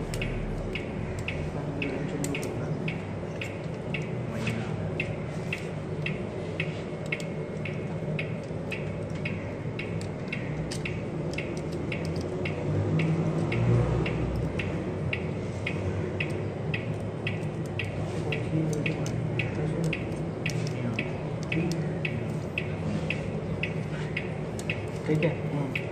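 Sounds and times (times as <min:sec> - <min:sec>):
steady regular ticking: 0:00.0 - 0:25.9.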